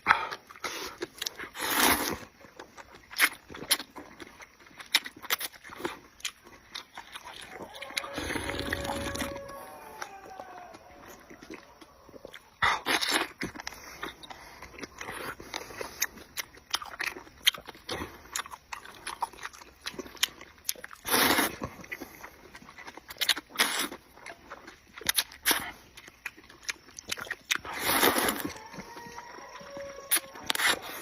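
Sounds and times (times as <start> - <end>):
wet chewing and smacking: 0.0 - 31.0.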